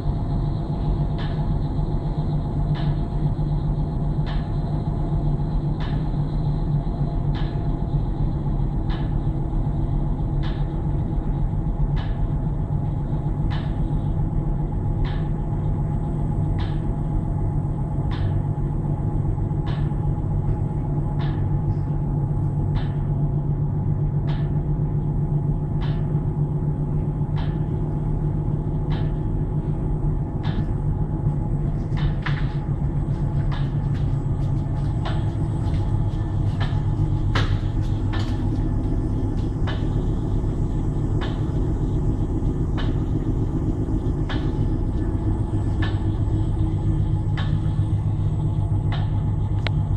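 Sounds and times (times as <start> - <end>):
steady machine hum: 0.0 - 49.9.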